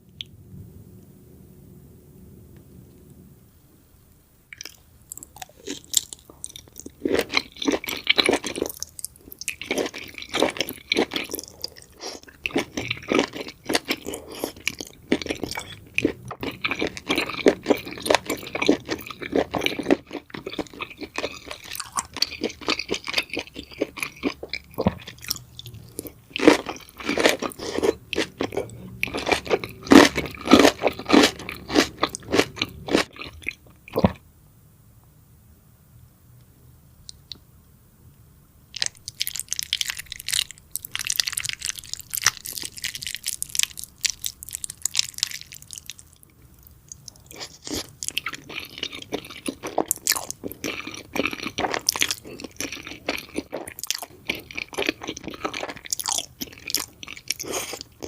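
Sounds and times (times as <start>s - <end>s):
crunchy chewing and smacking: 4.5s - 34.2s, 38.7s - 58.0s.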